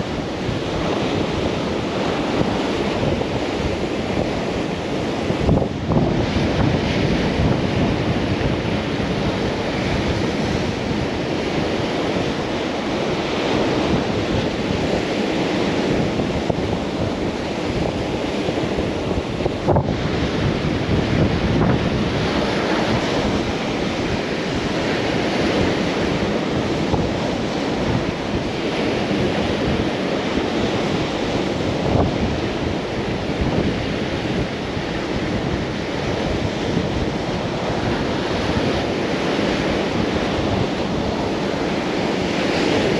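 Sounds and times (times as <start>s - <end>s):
waves breaking on rocky shore: 0.0s - 42.9s
wind buffeting microphone: 0.0s - 42.9s.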